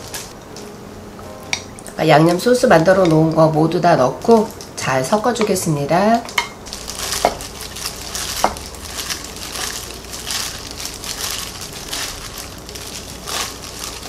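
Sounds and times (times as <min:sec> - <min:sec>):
plastic gloves crinkling: 0:00.0 - 0:00.4, 0:01.8 - 0:14.0.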